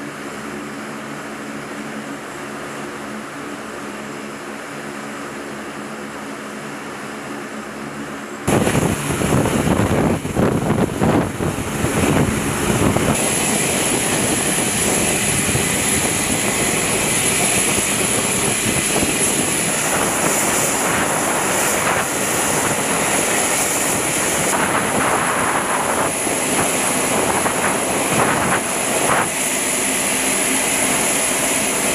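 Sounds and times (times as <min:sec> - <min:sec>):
aircraft turbine rushing and whining: 0:00.0 - 0:31.9.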